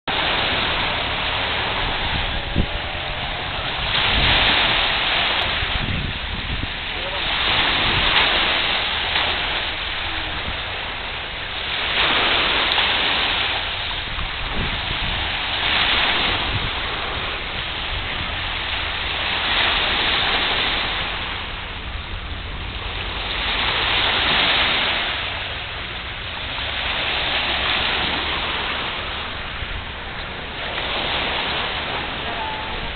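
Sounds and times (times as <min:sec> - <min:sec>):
waves washing over pebble beach: 0:00.1 - 0:32.9.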